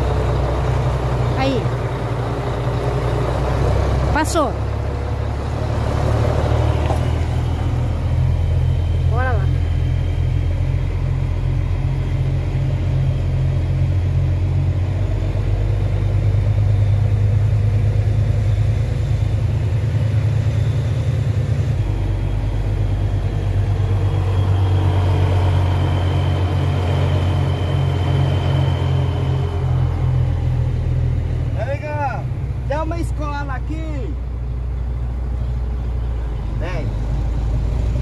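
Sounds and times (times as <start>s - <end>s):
truck diesel engine rumble: 0.0s - 38.0s.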